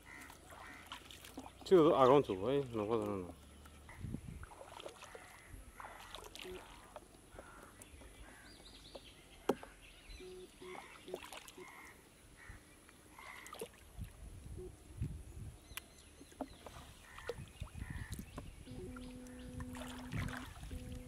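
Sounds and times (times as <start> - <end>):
light water splashes and drips: 0.0 - 9.8, 10.6 - 12.0, 12.7 - 15.1, 15.7 - 21.0.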